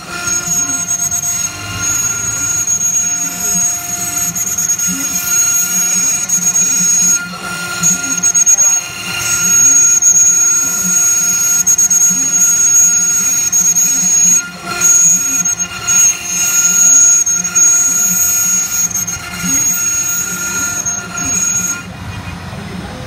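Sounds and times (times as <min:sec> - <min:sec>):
bit milling wood: 0:00.0 - 0:23.0
router spindle whining: 0:00.0 - 0:23.0.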